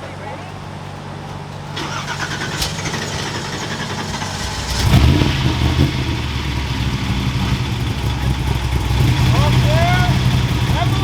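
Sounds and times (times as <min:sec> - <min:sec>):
engine cranking: 0:00.7 - 0:11.0
engine running loudly: 0:01.8 - 0:11.0.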